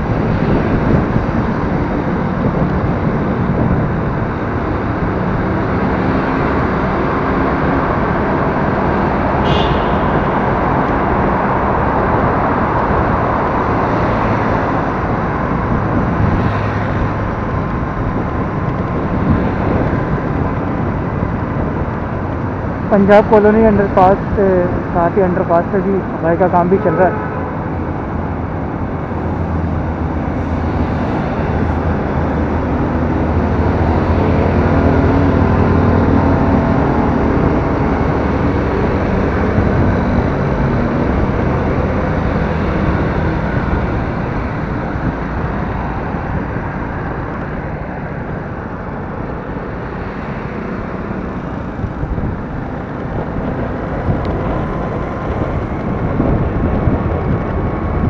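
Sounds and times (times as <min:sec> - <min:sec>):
tyre and wind rush: 0:00.0 - 0:23.0, 0:27.0 - 0:58.0
vehicle engine hum: 0:00.0 - 0:58.0.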